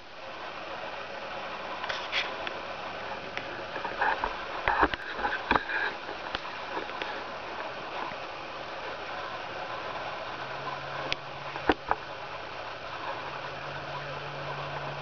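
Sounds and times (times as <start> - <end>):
steady hiss: 0.0 - 15.0
crunches and rustles in dry leaves: 1.7 - 14.1.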